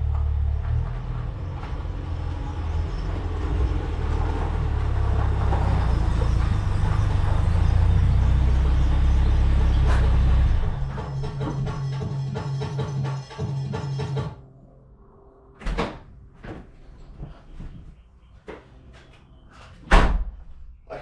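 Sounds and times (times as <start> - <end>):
car engine drone: 0.0 - 19.7.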